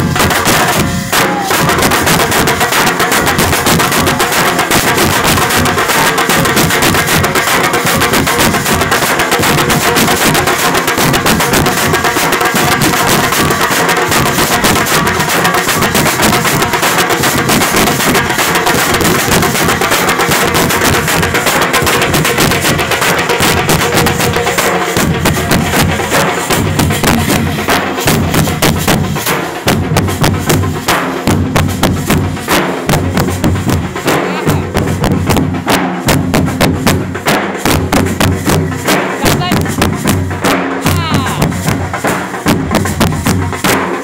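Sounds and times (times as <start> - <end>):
large barrel drums beaten: 0.0 - 44.0
small drums rattling: 0.0 - 44.0.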